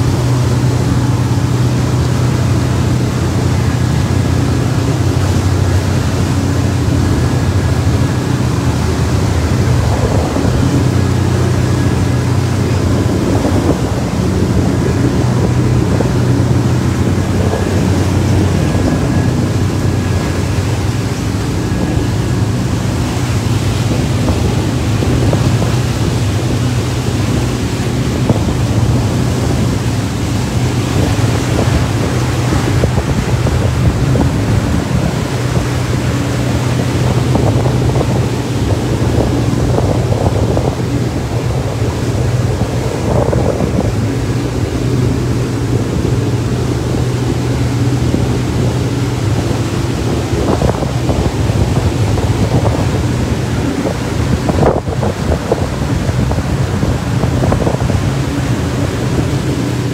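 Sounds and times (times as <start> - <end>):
boat engine droning: 0.0 - 59.9
boat wake and choppy water: 0.0 - 59.9
wind buffeting microphone: 0.0 - 59.9.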